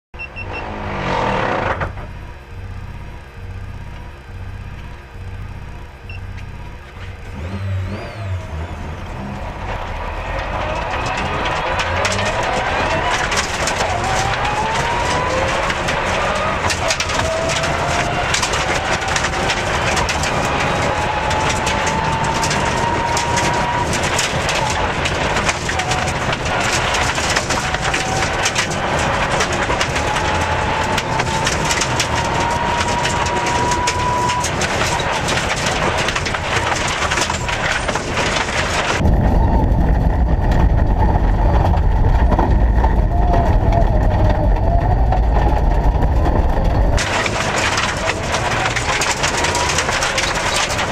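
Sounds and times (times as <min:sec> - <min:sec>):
muffled low car rumble: 0:00.2 - 0:50.9
rally car drivetrain whine: 0:00.2 - 0:50.9
gravel hitting car underbody: 0:08.6 - 0:50.9.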